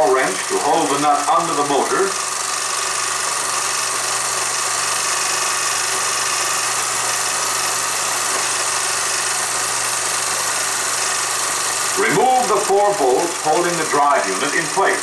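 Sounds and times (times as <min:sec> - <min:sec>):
film projector hiss: 0:00.0 - 0:15.0
projector mechanical whir: 0:00.0 - 0:15.0.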